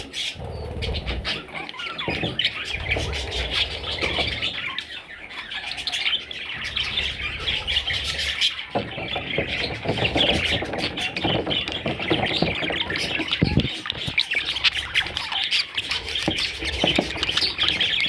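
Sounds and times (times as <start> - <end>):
budgerigars chirping and squawking: 0.0 - 18.0.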